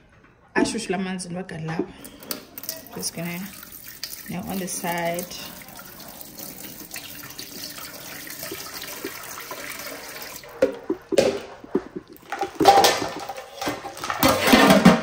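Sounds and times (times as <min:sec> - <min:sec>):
running water splashing: 0:02.2 - 0:14.9.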